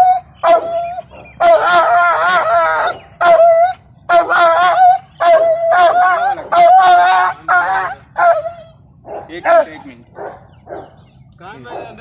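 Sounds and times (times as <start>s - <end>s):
dog howling: 0.0s - 10.9s.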